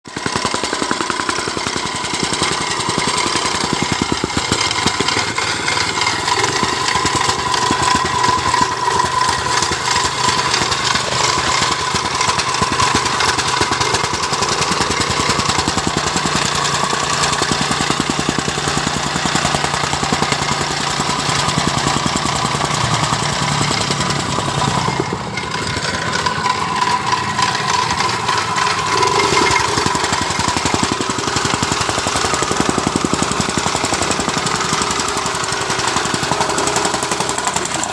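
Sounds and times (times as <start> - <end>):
soil compactor pounding ground: 0.0 - 37.9.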